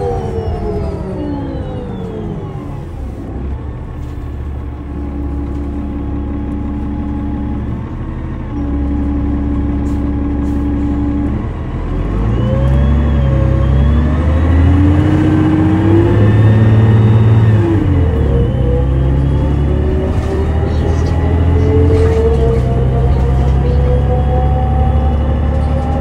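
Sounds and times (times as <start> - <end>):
diesel bus engine accelerating: 0.0 - 26.0
engine whine rising: 0.0 - 26.0.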